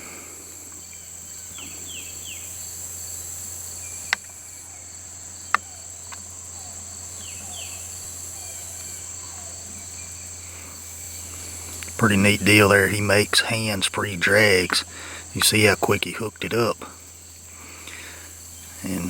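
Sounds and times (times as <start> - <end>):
bird chirps: 0.0 - 19.0
insects chirping: 0.0 - 19.0.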